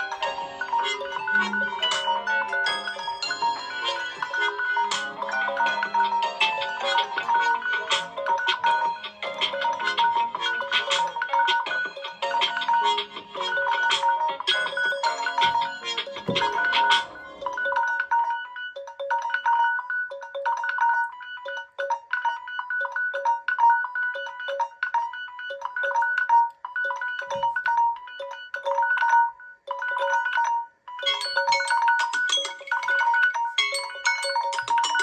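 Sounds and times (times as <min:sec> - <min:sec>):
phone alarm melody: 0:00.0 - 0:35.0.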